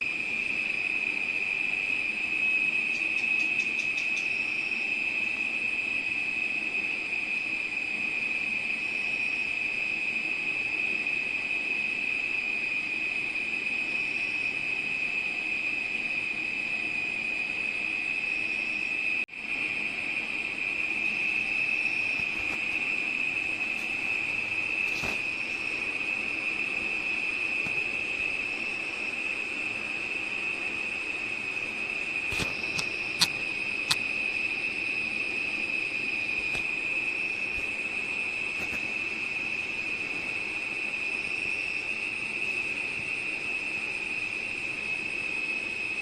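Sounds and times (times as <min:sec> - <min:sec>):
crickets trilling: 0:00.0 - 0:46.0.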